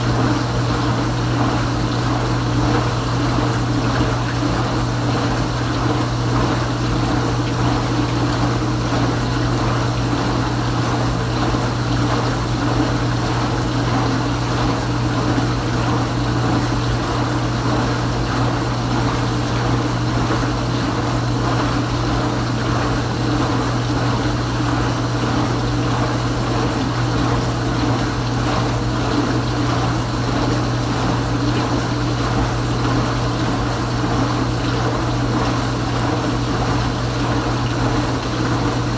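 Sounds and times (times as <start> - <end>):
dishwasher pump motor hum: 0.0 - 38.9
water spraying inside dishwasher: 0.0 - 38.9.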